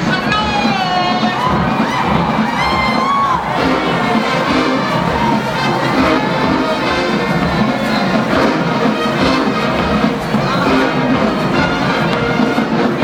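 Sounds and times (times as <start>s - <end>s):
drum hits: 0.0s - 13.0s
marching band brass playing: 0.0s - 13.0s.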